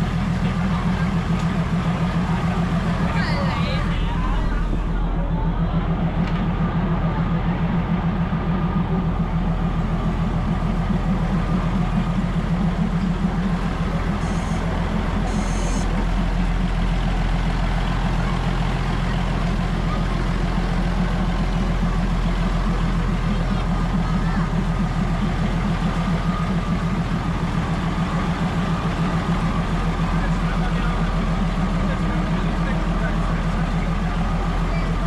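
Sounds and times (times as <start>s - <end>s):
large diesel engine throbbing: 0.0s - 35.0s.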